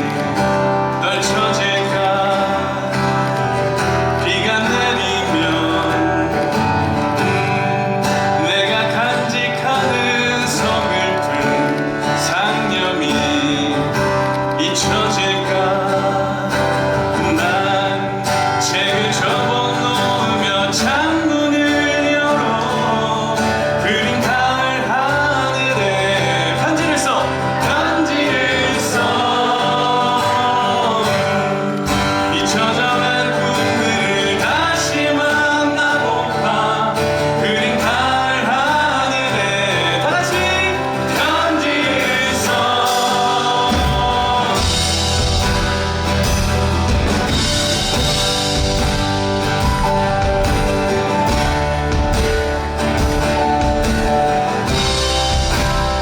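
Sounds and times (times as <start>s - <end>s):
acoustic guitar: 0.0s - 56.0s
band accompaniment: 0.0s - 56.0s
person singing: 0.0s - 56.0s.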